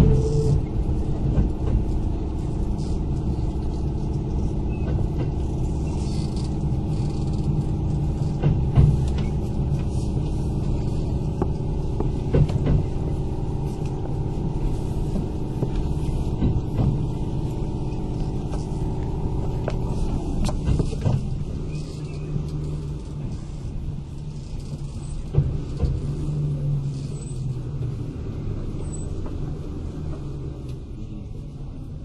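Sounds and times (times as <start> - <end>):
rail-joint clicks: 0.0 - 27.9
train drive hum: 0.0 - 32.0
train wheels rumbling on rail: 0.0 - 32.0.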